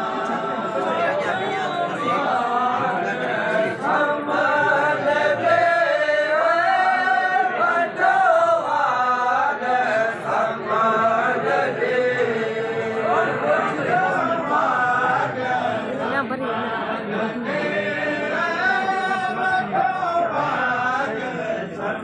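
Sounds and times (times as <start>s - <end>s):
voices chanting a melody: 0.0s - 22.0s.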